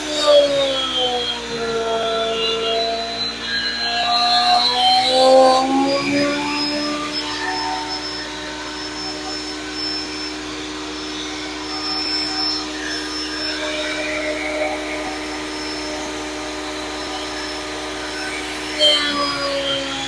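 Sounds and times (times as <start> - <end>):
planer motor whining: 0.0 - 20.0.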